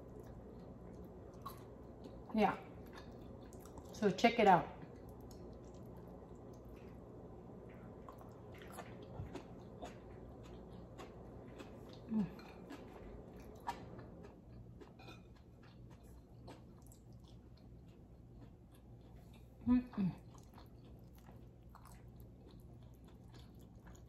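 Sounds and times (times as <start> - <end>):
chewing smacks: 0.0 - 4.0, 4.8 - 19.6, 20.2 - 24.0.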